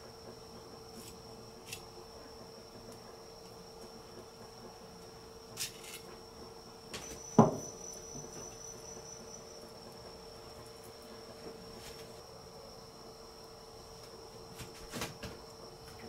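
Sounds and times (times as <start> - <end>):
cricket trill: 0.0 - 16.0.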